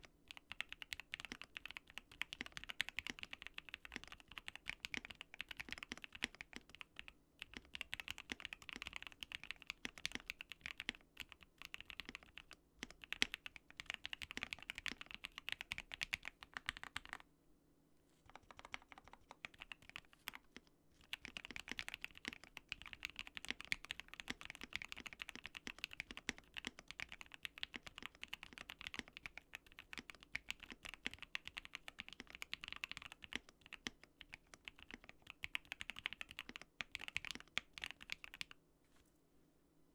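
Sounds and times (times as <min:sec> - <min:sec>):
fast mechanical keyboard typing: 0:00.0 - 0:17.2, 0:18.3 - 0:38.6.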